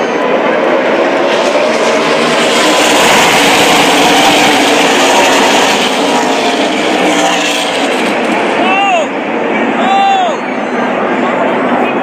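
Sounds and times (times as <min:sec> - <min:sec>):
race truck engines droning: 0:00.0 - 0:12.0.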